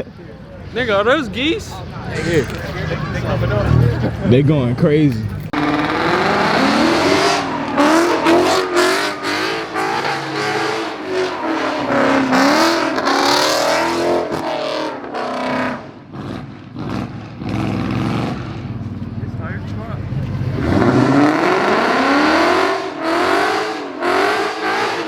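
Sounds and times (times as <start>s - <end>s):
car engine revving: 1.8s - 25.0s.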